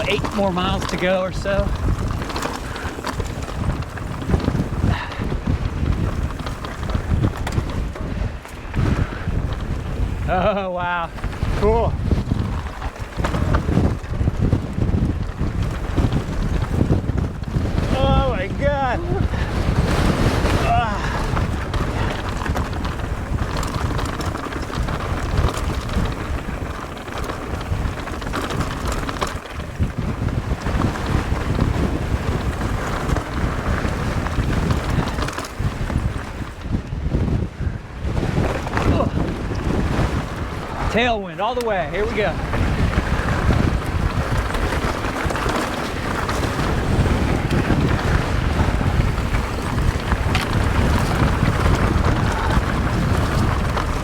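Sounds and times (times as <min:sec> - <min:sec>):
sharp crackles: 0:00.0 - 0:36.6, 0:38.4 - 0:54.0
bike clattering over rocky trail: 0:00.0 - 0:37.3, 0:38.1 - 0:54.0
wind buffeting microphone: 0:00.0 - 0:54.0.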